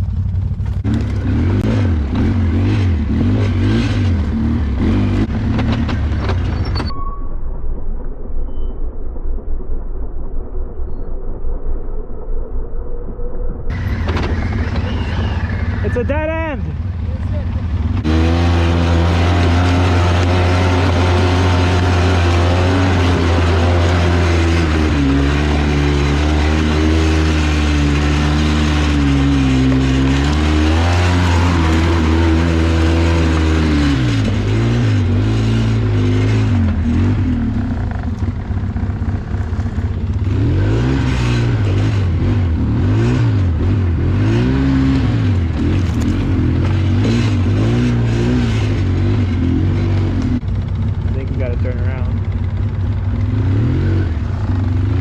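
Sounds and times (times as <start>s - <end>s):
atv engine revving: 0.0s - 6.8s, 13.7s - 55.0s.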